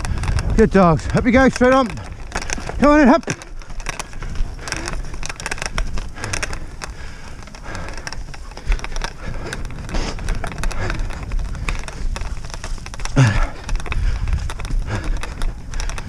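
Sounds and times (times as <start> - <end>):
wheeled rig rattling over track: 0.0 - 16.0.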